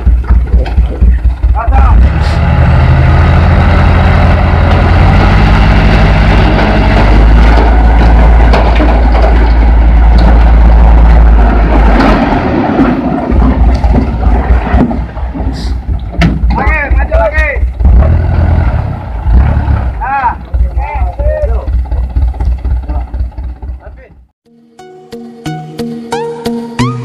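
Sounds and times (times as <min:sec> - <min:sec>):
diesel truck engine running: 0:00.0 - 0:24.3.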